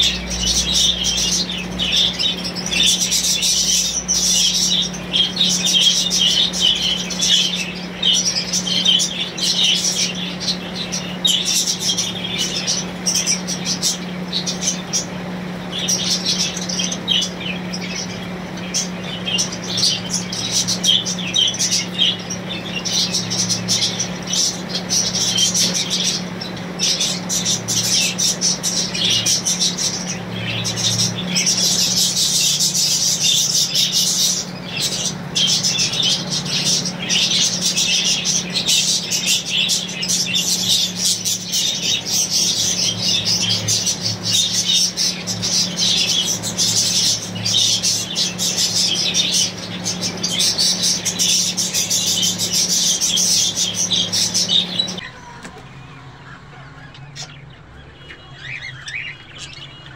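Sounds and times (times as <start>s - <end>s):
budgerigars chattering: 0.0s - 59.9s
steady low hum: 0.0s - 59.9s.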